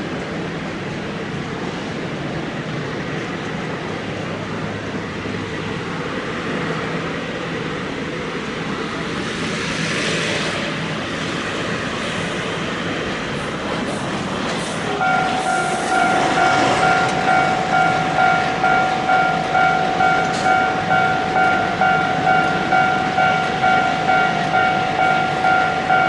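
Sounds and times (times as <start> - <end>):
heavy vehicle rumbling: 0.0 - 26.0.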